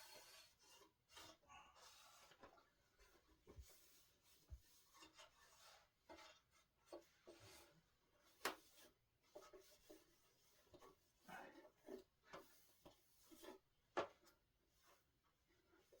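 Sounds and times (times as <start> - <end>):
rubbing and scraping on wood: 0.0 - 15.1.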